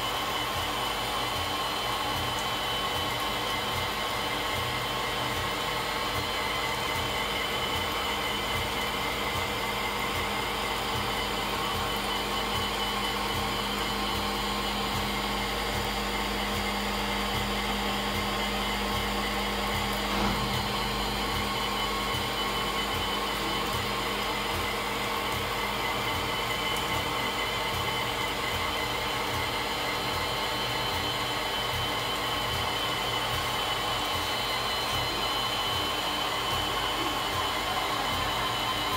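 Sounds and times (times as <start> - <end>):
machine whirring with a whine: 0.0 - 38.9.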